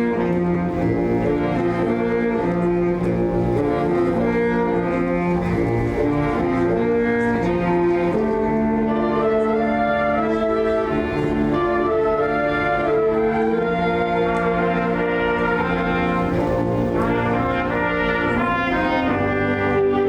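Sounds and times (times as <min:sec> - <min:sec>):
orchestra playing slow piece: 0:00.0 - 0:20.0.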